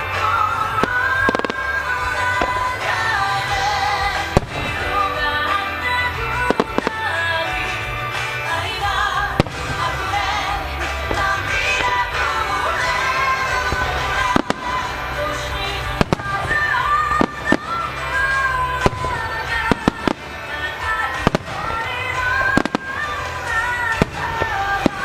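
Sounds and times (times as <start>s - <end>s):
fireworks bursting: 0.0s - 25.0s
music with singing voice: 0.0s - 25.0s.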